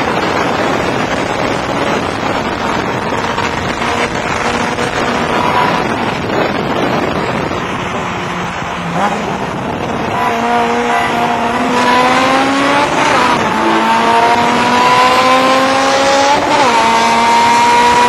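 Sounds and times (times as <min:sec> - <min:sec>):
car engine accelerating hard: 0:00.0 - 0:18.0
road and wind noise: 0:00.0 - 0:18.0.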